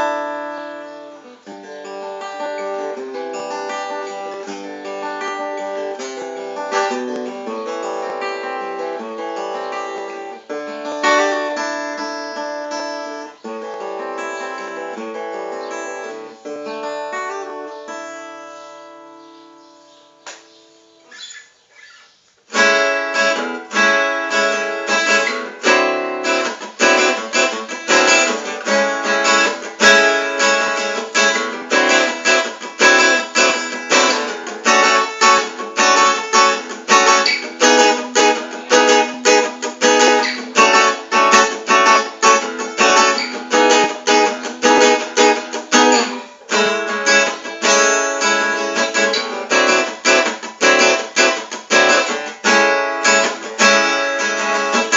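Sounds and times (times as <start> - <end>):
acoustic guitar strumming chords: 0.0 - 54.9.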